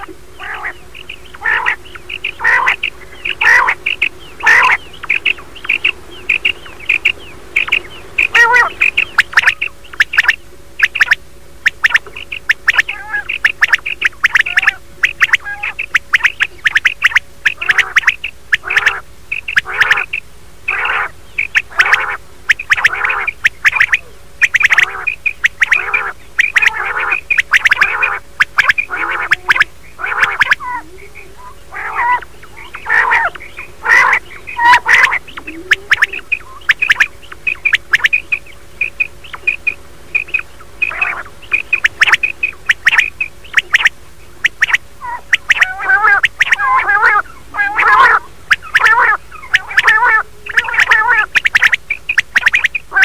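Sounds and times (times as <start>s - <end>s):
faint steady hum: 0.0s - 53.0s
recorded quail calls: 0.0s - 53.0s.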